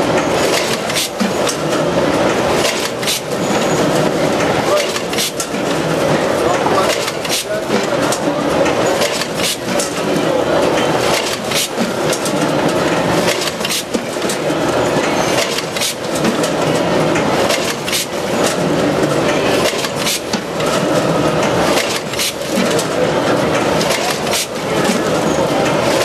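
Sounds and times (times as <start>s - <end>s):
bagging machine clatter: 0.0s - 26.0s
sharp mechanical clicks and knocks: 0.1s - 26.0s.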